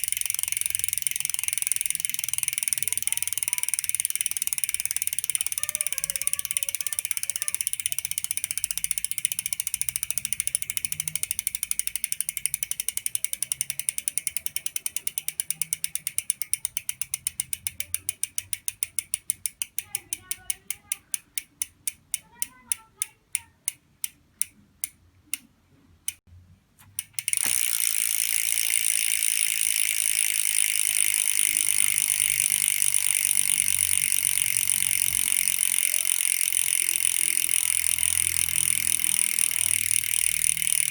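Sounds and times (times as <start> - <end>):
bicycle freehub clicking: 0.0 - 40.9.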